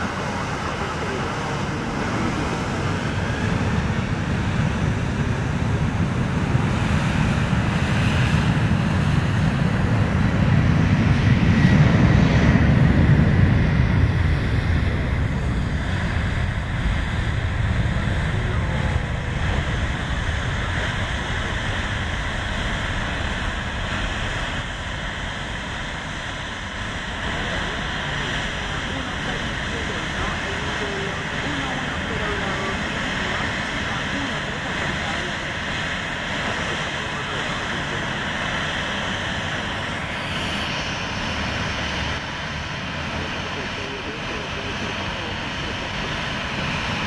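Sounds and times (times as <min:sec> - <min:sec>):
jet engines rumbling and roaring: 0:00.0 - 0:47.0.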